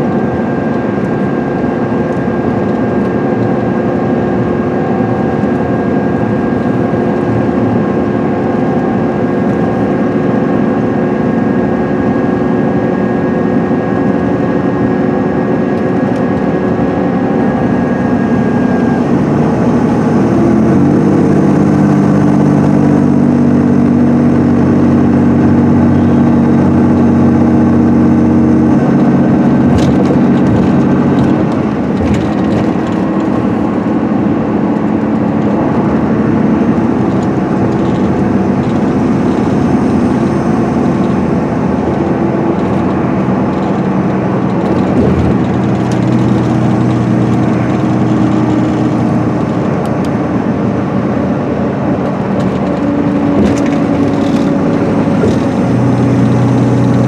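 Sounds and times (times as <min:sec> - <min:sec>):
diesel bus engine running: 0:00.0 - 0:57.0
tyre and road noise: 0:00.0 - 0:57.0.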